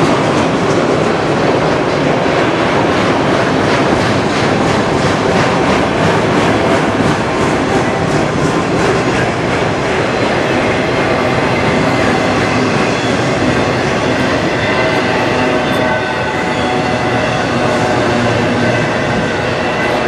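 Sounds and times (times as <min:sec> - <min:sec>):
rail cars rattling: 0:00.0 - 0:20.0
train wheels rumbling on rails: 0:00.0 - 0:20.0.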